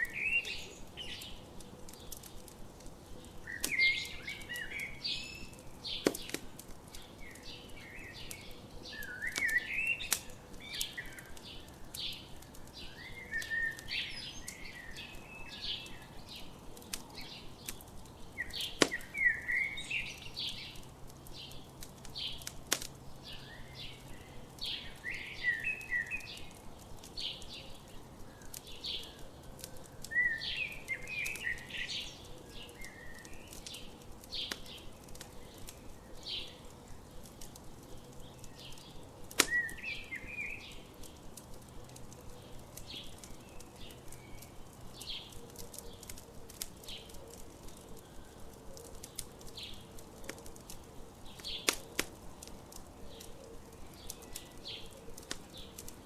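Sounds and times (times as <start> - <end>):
campfire crackling pops: 0.0 - 56.0
songbirds chirping and singing: 0.0 - 56.0.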